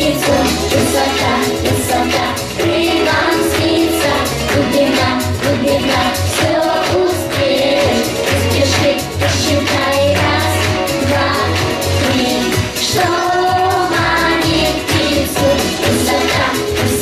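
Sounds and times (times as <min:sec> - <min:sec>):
children singing into microphones: 0:00.0 - 0:17.0
pop backing track: 0:00.0 - 0:17.0.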